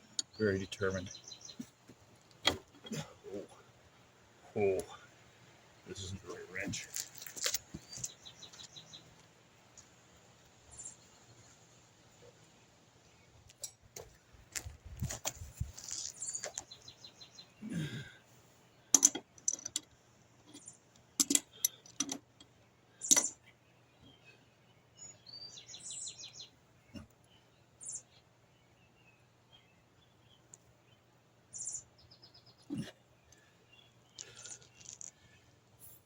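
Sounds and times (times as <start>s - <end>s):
small birds chirping: 0.0s - 14.7s, 15.4s - 36.0s.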